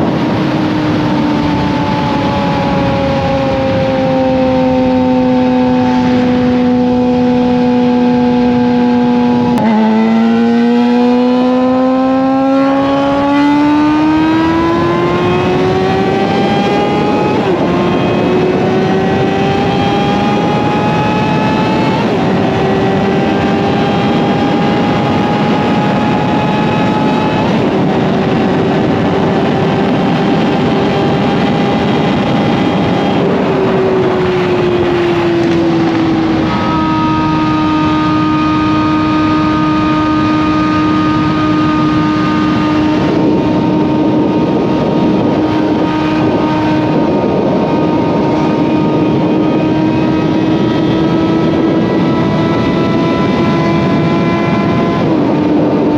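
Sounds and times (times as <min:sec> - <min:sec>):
motorcycle engine revving: 0:00.0 - 0:55.9
wind rush: 0:00.0 - 0:55.9.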